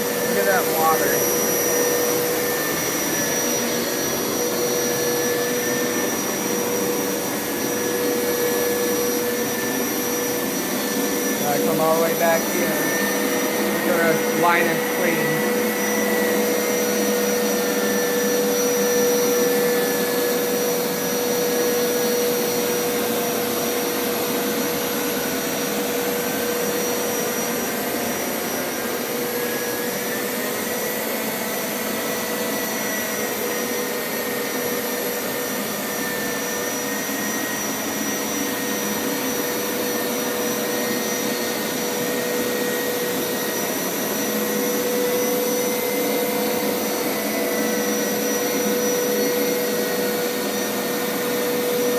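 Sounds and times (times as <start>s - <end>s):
carpet washer motor whine: 0.0s - 51.9s.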